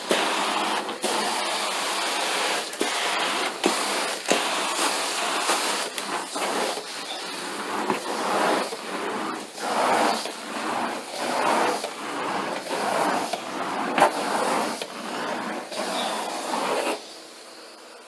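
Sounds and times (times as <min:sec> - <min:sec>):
carpet-cleaning machine hissing: 0:00.0 - 0:18.0.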